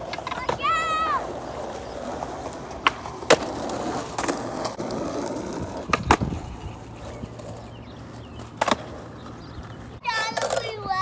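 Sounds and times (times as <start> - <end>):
skateboard clacking on ground: 0.0 - 11.0
skateboard wheels rolling on asphalt: 0.0 - 11.0.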